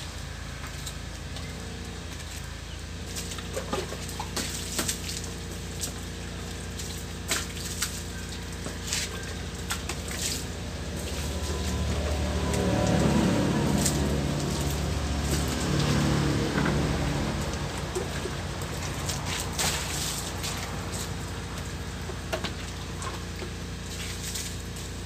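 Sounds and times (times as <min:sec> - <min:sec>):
steady low hum: 0:00.0 - 0:25.0
water splashing on concrete: 0:03.0 - 0:25.0.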